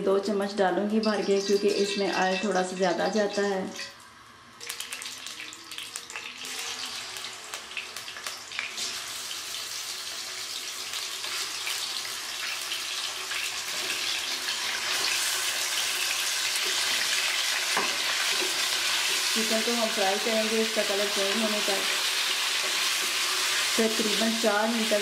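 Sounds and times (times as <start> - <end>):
chicken sizzling in hot oil: 4.6 - 25.0.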